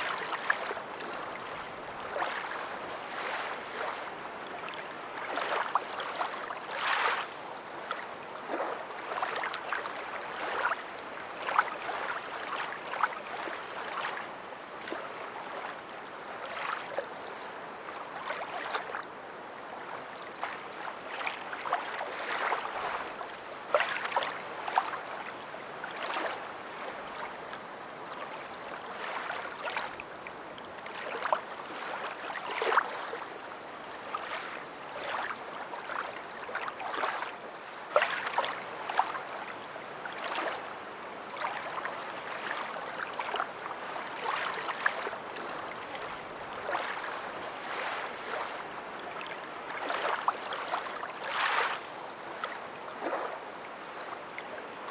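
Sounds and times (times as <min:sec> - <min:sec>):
water splashing and lapping: 0:00.0 - 0:17.3, 0:17.9 - 0:54.8.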